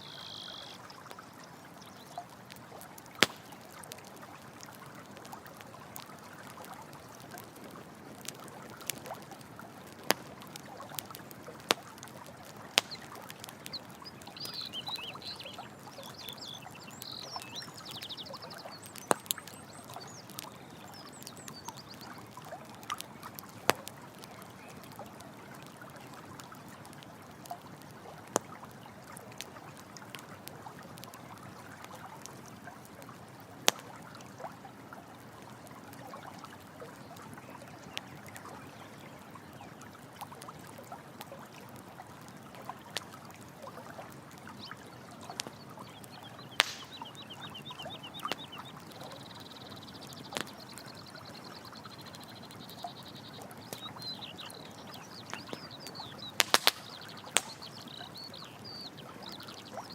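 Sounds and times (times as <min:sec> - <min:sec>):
campfire crackling: 0:00.0 - 0:59.9
running water: 0:00.0 - 0:59.9.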